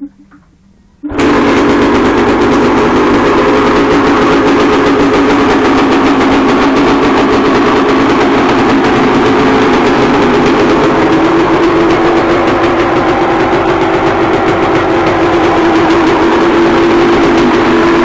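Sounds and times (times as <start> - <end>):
dirt bike engine starting and idling: 1.1 - 18.0.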